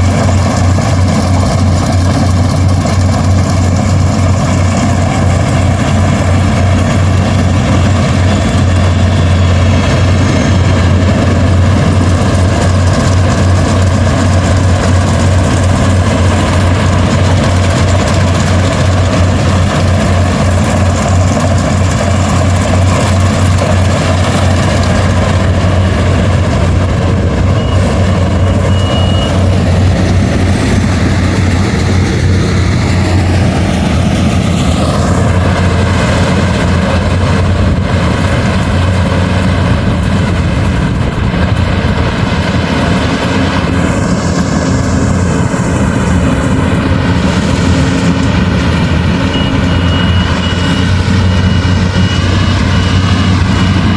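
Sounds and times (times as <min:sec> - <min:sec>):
harvester engine running: 0:00.0 - 0:53.9.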